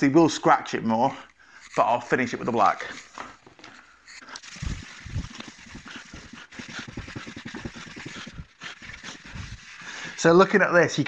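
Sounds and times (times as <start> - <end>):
abrasive pad scrubbing plastic: 1.6 - 10.6.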